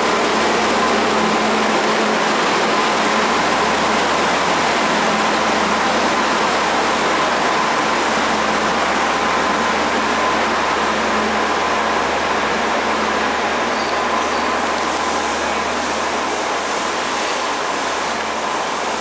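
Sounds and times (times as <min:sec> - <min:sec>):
train carriages rolling past: 0:00.0 - 0:19.0.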